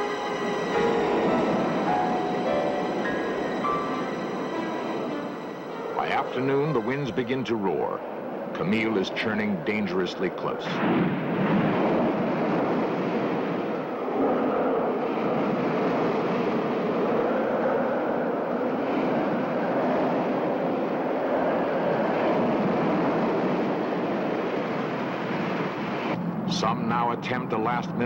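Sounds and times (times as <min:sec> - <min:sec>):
wind roaring: 0:00.0 - 0:28.0.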